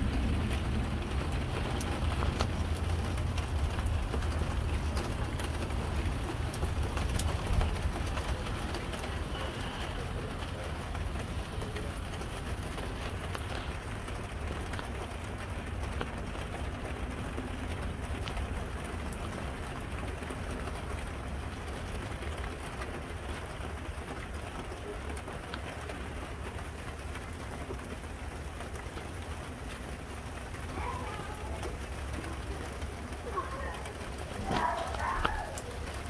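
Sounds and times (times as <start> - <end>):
raindrop ticks: 0.0 - 36.0
steady rain: 0.0 - 36.0.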